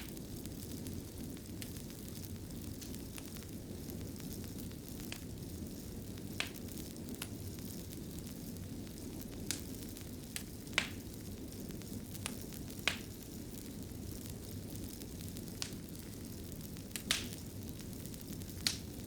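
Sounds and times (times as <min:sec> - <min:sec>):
fire popping: 0:00.0 - 0:19.0
fire rumbling: 0:00.0 - 0:19.0.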